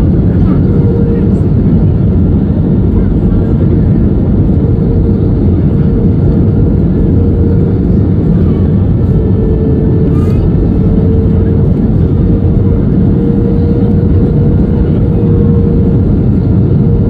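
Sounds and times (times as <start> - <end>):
jet engine drone: 0.0 - 17.0
rushing air in airliner cabin: 0.0 - 17.0.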